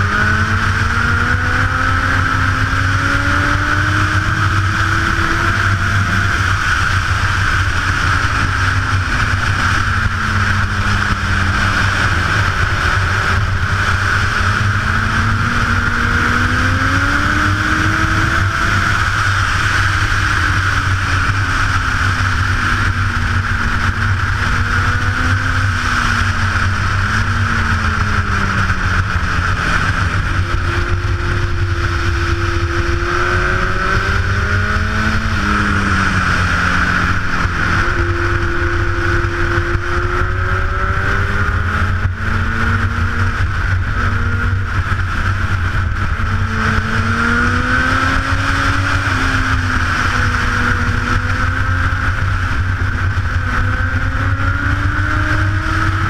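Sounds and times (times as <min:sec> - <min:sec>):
motorcycle engine revving at speed: 0:00.0 - 0:56.0
wind noise rushing: 0:00.0 - 0:56.0.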